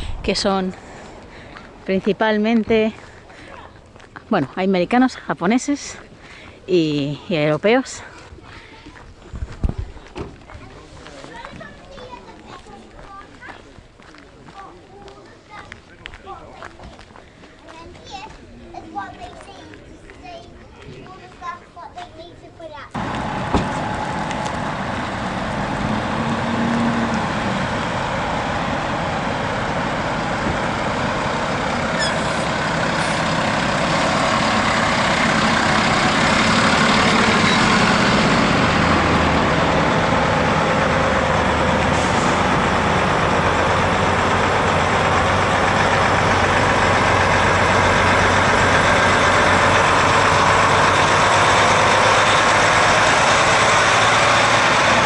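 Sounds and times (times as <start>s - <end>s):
truck diesel engines running: 0.0s - 18.3s, 22.9s - 55.0s.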